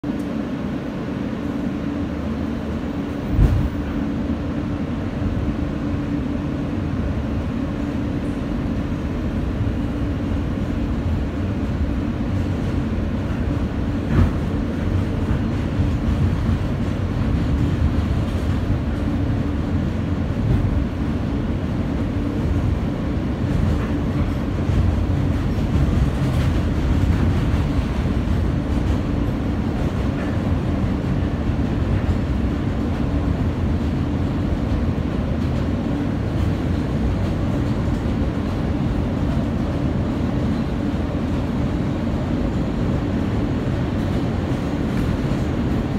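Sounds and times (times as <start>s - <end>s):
subway car rumbling: 0.0s - 45.9s.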